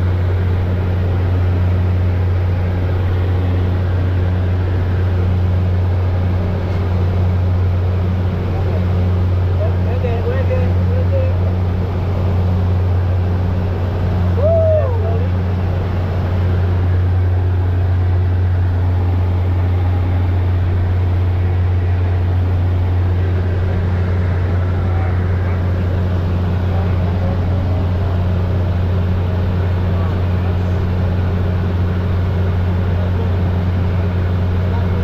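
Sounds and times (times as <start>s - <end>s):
aircraft engine droning: 0.0s - 35.0s.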